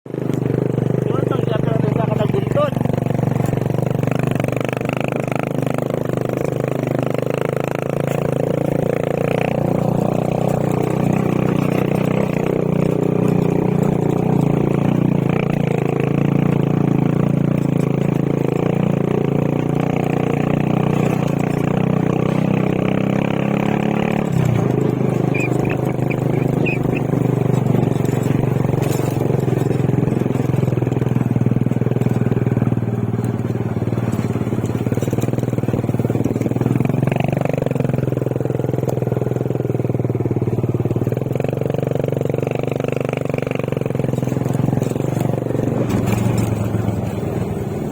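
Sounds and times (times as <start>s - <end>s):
motorcycle engine running: 0.1s - 47.9s.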